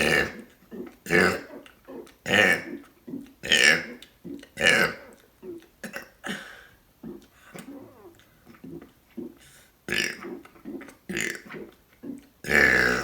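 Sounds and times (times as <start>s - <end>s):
person burping: 0.0s - 13.0s.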